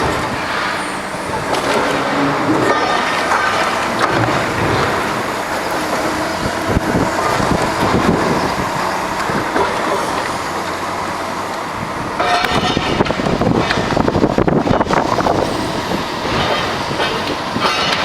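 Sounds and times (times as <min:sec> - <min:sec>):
demolition crunching and clattering: 0:00.0 - 0:10.8, 0:12.0 - 0:18.0
heavy machinery running: 0:00.0 - 0:18.0.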